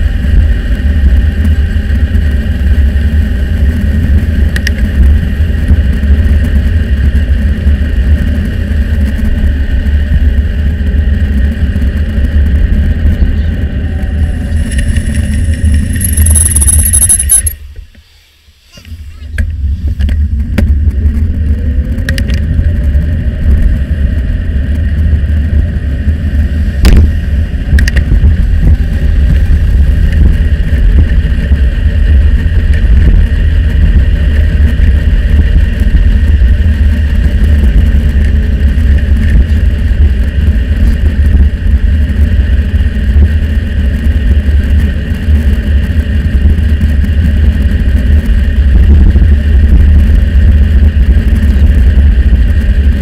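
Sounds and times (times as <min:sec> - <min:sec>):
wind rumble on microphone: 0:00.0 - 0:18.0, 0:18.7 - 0:53.0
road traffic: 0:00.0 - 0:53.0.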